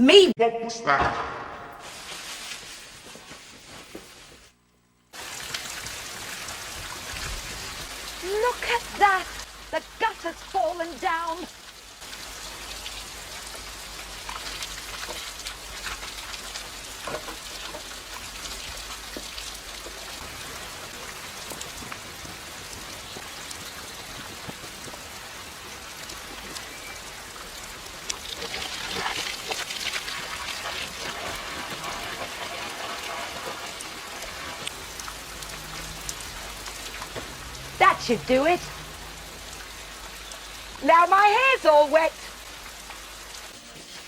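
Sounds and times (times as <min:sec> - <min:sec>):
steady rain falling: 0:01.8 - 0:04.0, 0:05.1 - 0:44.0.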